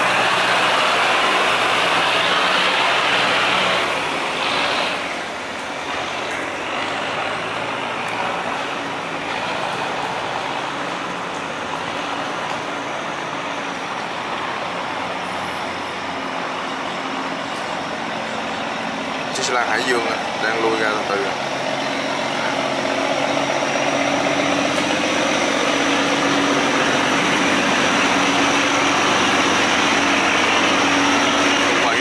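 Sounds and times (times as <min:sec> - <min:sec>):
diesel engines humming: 0:00.0 - 0:32.0.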